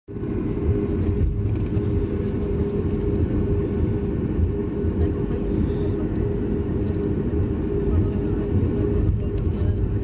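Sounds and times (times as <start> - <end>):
jet cabin rumble and hum: 0.1 - 10.0.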